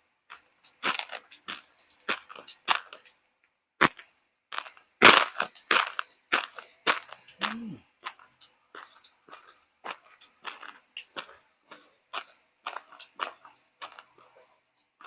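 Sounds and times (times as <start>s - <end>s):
crunching and chewing crisp food: 0.2s - 3.2s, 3.8s - 15.0s.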